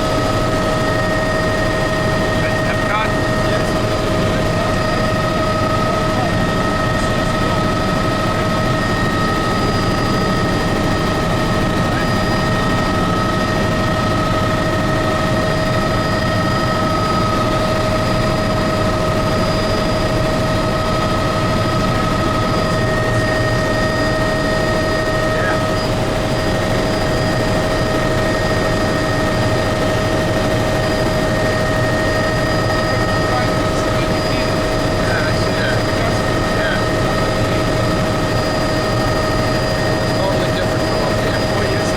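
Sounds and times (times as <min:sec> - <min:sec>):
helicopter rotor and turbine drone: 0:00.0 - 0:41.9.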